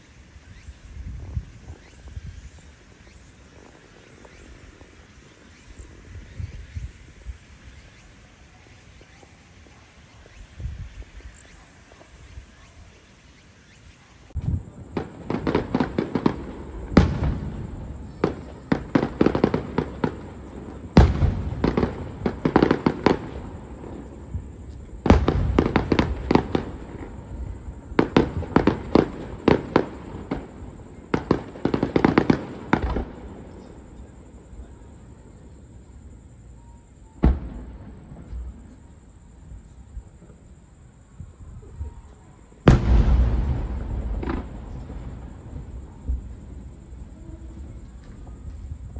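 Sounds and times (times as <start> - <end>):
fireworks booming and crackling: 0.0 - 35.5, 37.2 - 40.6, 41.6 - 48.9.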